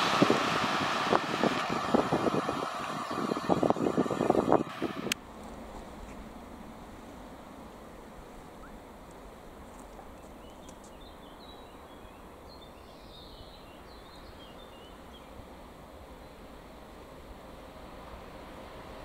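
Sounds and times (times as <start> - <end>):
distant high-speed train rumble: 0.0 - 19.0.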